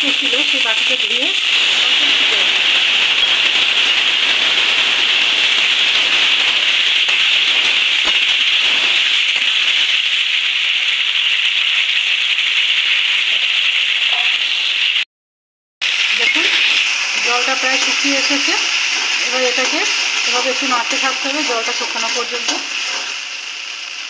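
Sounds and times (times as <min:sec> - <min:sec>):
vegetables sizzling in a pan: 0:00.0 - 0:15.0, 0:15.8 - 0:24.0.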